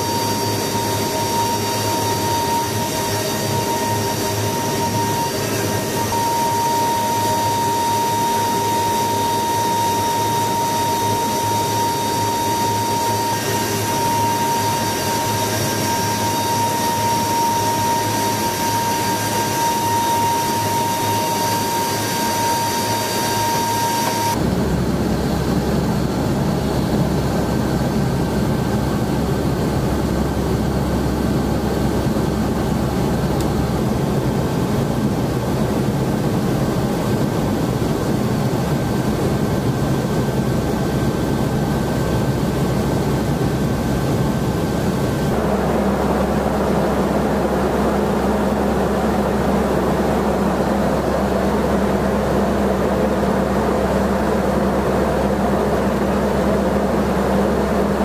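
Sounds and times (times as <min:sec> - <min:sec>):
aircraft drone in cockpit: 0:00.0 - 0:58.0
aircraft engines with high whine: 0:00.0 - 0:58.0.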